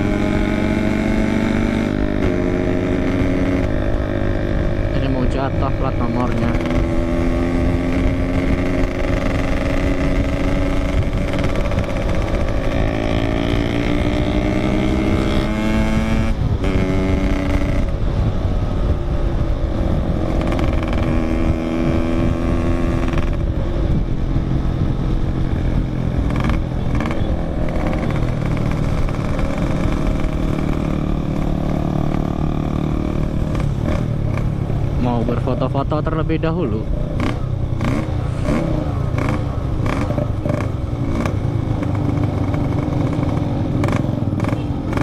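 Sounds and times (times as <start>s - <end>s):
two-stroke motorcycle accelerating: 0.0s - 45.0s.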